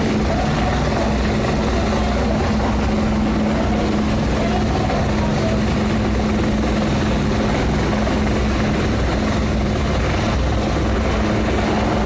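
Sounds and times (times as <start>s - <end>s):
helicopter rotor noise: 0.0s - 12.0s.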